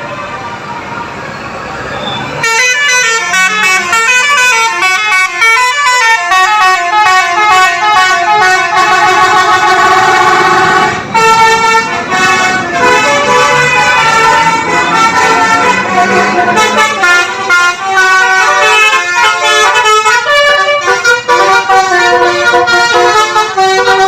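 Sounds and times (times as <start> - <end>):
multi-tone bus horn melody: 2.3 - 24.0.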